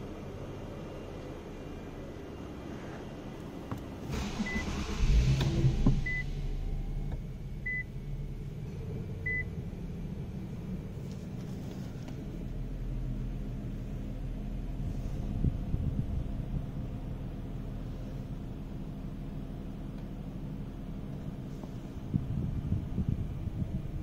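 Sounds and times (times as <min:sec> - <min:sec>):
car engine starting and idling: 0:00.0 - 0:24.0.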